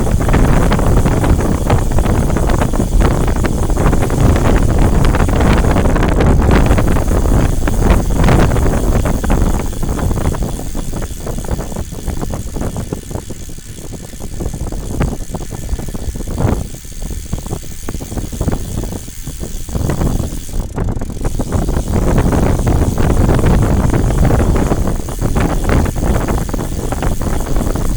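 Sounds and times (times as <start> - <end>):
vehicle rattling: 0.0 - 27.9
vehicle rumbling: 0.0 - 27.9.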